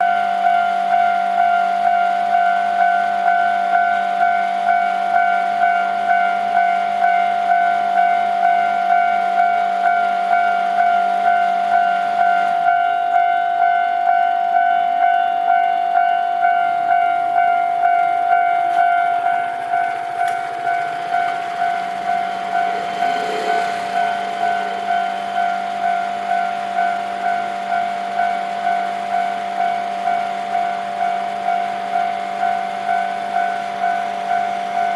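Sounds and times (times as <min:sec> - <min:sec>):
level crossing warning bell: 0:00.0 - 0:34.9.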